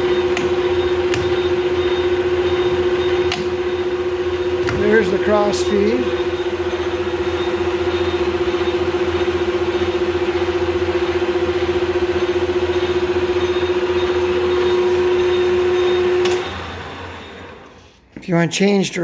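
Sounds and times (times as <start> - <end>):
lathe gear whine: 0.0 - 17.9
lathe running noise: 0.0 - 17.9.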